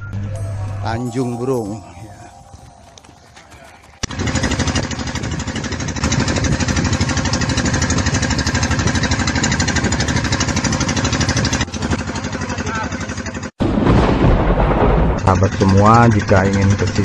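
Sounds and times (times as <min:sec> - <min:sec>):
boat engine chugging: 0:00.0 - 0:13.5, 0:15.3 - 0:17.0.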